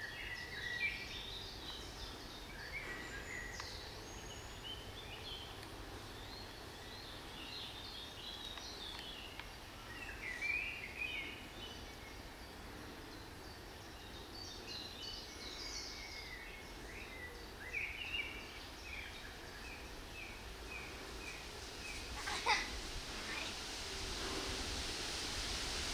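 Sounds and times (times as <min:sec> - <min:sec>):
birds singing: 0:00.0 - 0:24.3
outdoor background hiss: 0:00.0 - 0:25.9.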